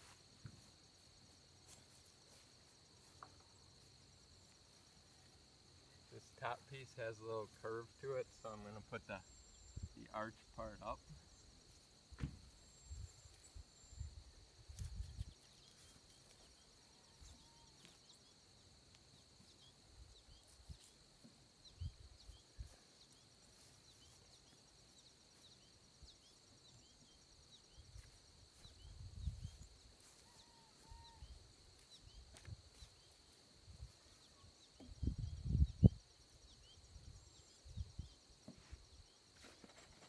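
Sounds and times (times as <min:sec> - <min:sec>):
crickets droning: 0:00.0 - 0:40.0.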